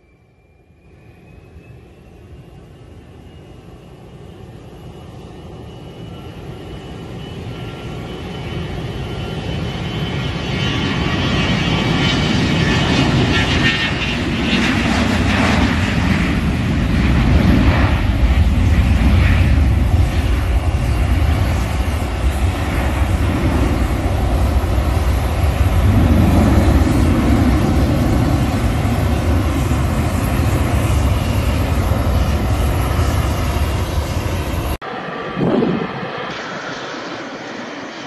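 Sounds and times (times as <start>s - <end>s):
jet engines whining and rumbling: 0.0s - 38.0s.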